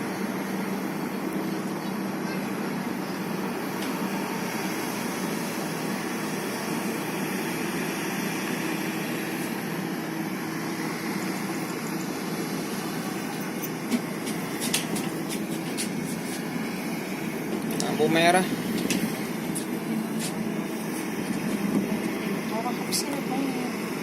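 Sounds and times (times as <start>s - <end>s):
large engine idling: 0.0s - 24.0s.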